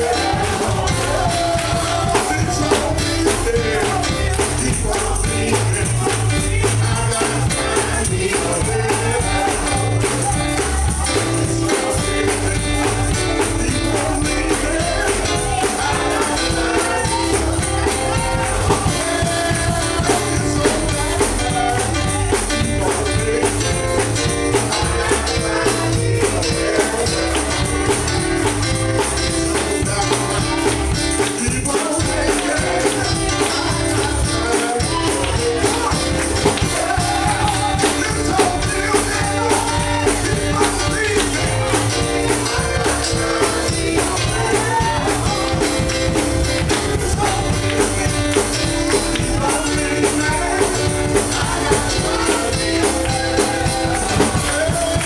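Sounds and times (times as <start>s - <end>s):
gospel band playing a steady beat: 0.0s - 55.0s
man singing into a microphone: 0.0s - 55.0s.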